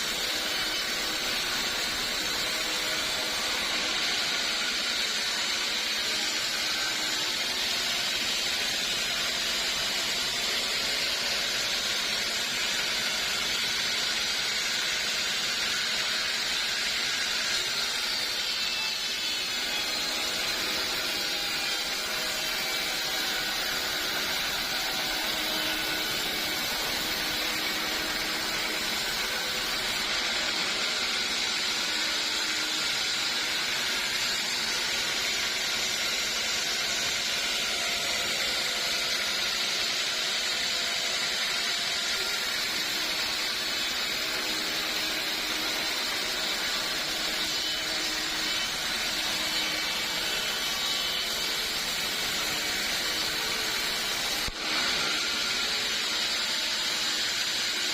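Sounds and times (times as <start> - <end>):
sawmill saw cutting wood: 0.0 - 57.9.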